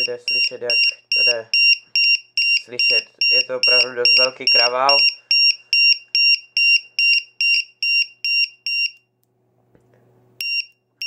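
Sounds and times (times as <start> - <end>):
battery alarm beeping: 0.0 - 9.1, 10.4 - 10.8.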